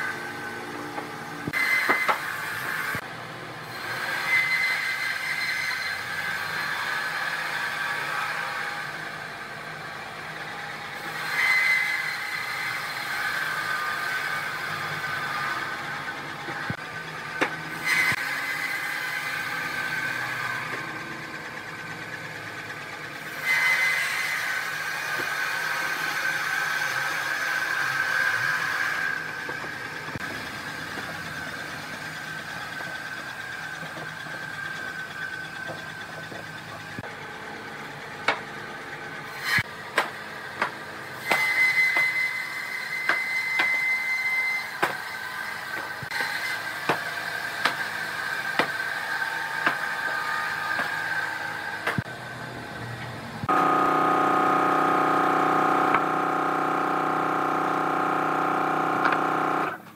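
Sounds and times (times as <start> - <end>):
woodworking machine whining: 3.9 - 59.9.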